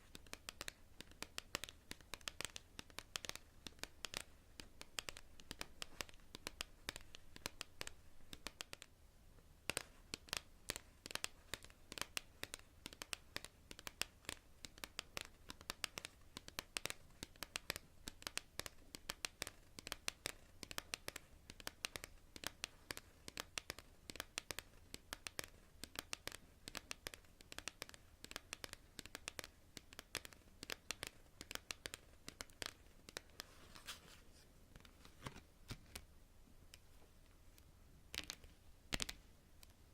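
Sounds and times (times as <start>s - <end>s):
fingernails tapping on cards: 0.1s - 8.9s, 9.6s - 33.9s.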